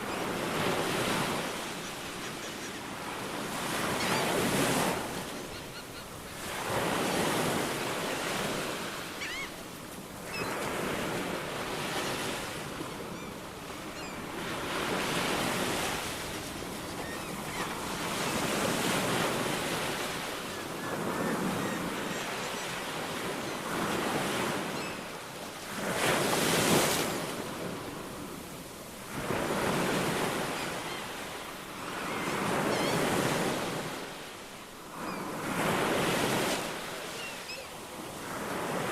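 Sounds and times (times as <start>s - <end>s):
ocean waves washing ashore: 0.0s - 38.9s.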